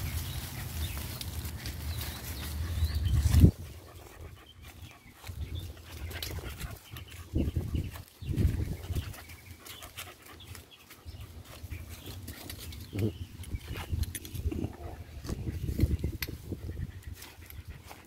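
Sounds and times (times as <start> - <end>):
puppy panting: 0.4 - 13.2, 16.2 - 18.0.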